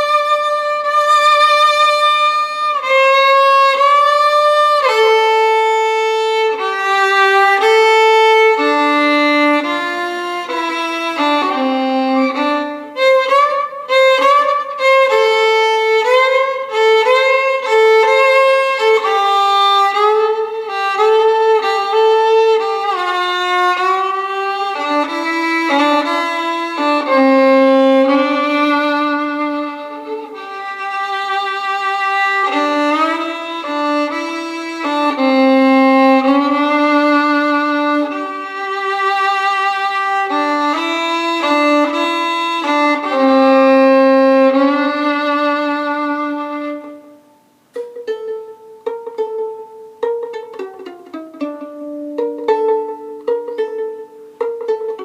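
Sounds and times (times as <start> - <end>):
bowed violin melody: 0.0 - 55.0
plucked violin notes: 0.0 - 55.0.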